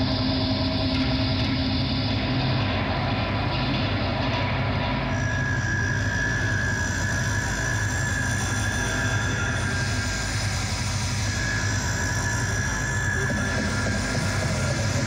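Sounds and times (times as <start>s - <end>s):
electronic drone: 0.0s - 15.0s.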